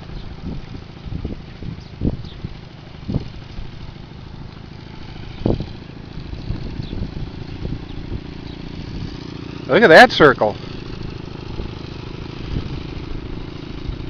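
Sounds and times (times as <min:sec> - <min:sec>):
motorcycle engine running slowly: 0:00.0 - 0:14.0.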